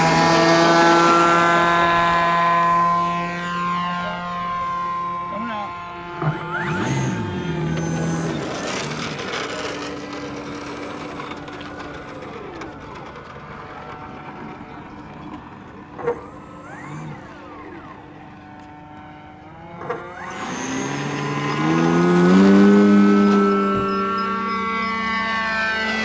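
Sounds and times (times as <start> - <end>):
model airplane engine: 0.0 - 26.0.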